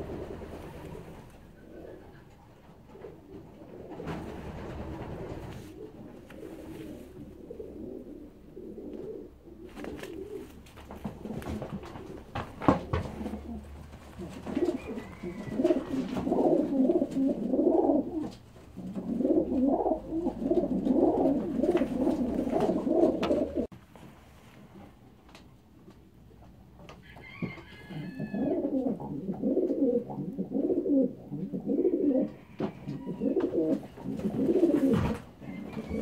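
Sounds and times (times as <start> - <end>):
pigeons cooing: 0.0 - 23.7, 27.8 - 36.0.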